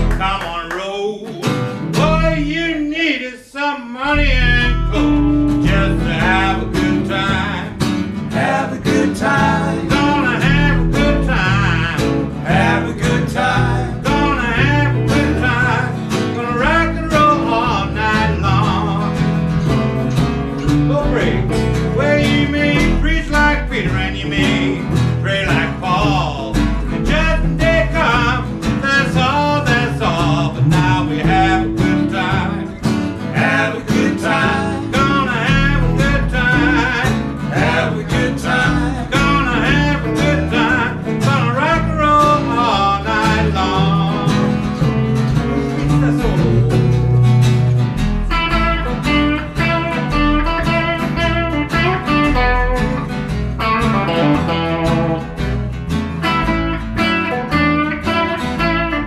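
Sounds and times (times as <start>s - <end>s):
plucked double bass: 0.0s - 0.7s, 1.4s - 2.9s, 4.1s - 59.0s
acoustic guitar: 0.0s - 59.0s
electric guitar: 4.1s - 59.0s.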